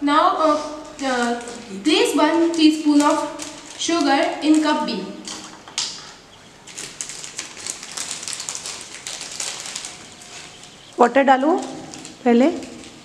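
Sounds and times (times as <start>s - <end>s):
plastic packet crinkling: 0.8s - 13.0s.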